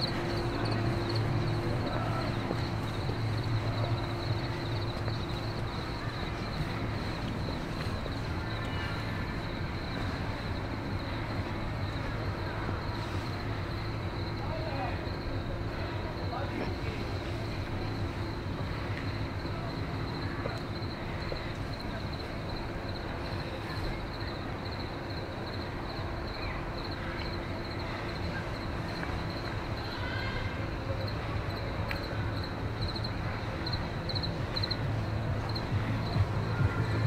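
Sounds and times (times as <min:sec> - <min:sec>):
crickets chirping: 0:00.0 - 0:37.0
steady low hum: 0:00.0 - 0:37.0.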